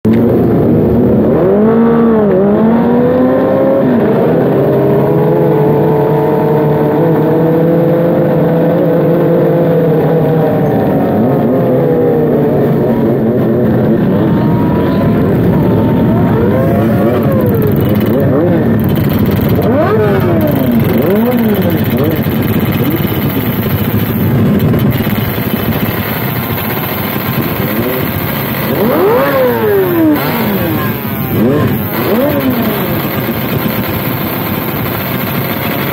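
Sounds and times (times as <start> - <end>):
motorcycle engine revving: 0.1 - 35.9.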